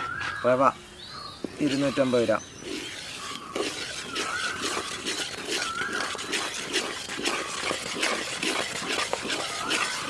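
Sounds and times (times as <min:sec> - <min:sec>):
ladle stirring in steel pot: 0:01.5 - 0:10.0.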